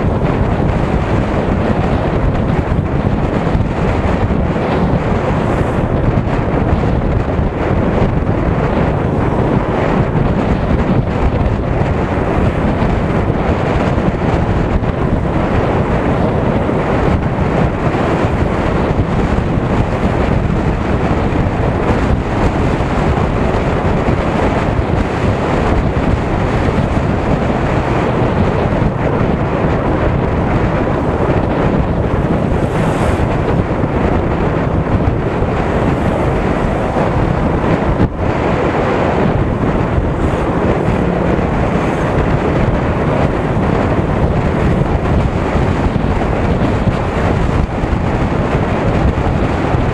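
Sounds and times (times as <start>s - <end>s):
motorcycle road noise: 0.0s - 49.9s
wind buffeting microphone: 0.0s - 49.9s.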